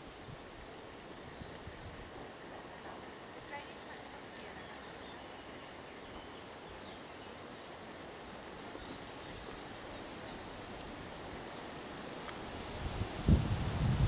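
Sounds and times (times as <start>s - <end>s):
even hiss: 0.0s - 14.0s.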